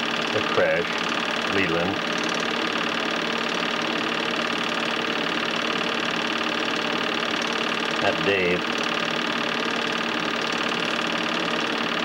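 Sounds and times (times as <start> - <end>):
film projector clattering: 0.0 - 12.0.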